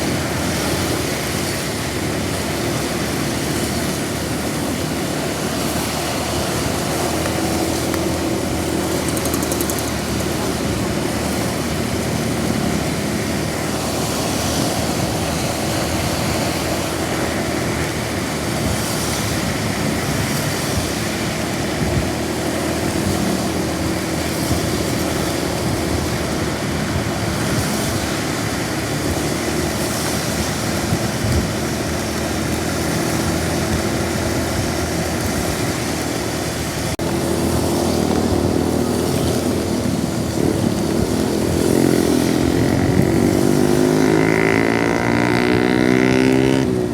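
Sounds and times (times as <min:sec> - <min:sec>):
heavy rain hissing: 0:00.0 - 0:46.9
road noise: 0:00.0 - 0:46.9
vehicle engine running: 0:00.0 - 0:46.9.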